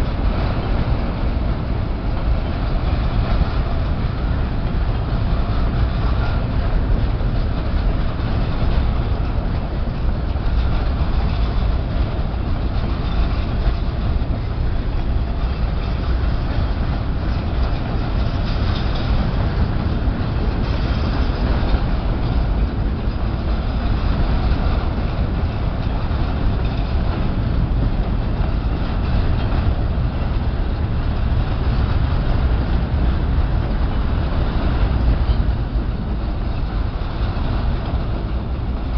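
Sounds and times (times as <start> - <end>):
steel train wheels on rails: 0.0 - 38.9.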